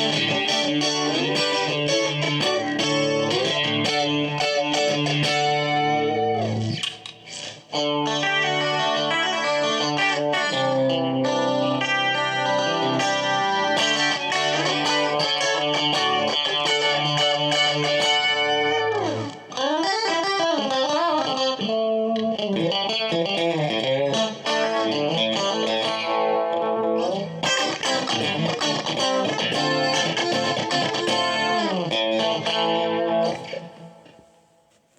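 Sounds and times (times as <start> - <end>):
clean electric guitar: 0.0 - 34.7.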